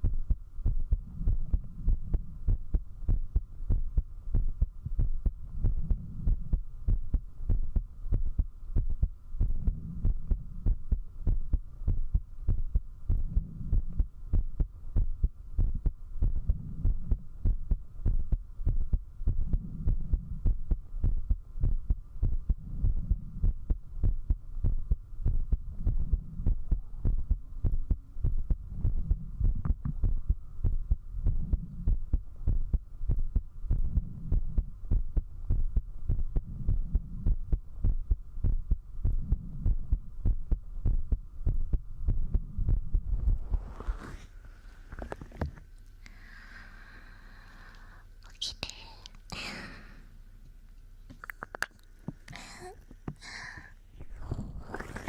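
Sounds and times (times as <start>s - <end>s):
heartbeat thumps: 0.0s - 45.7s
faint steady hum: 0.0s - 55.0s.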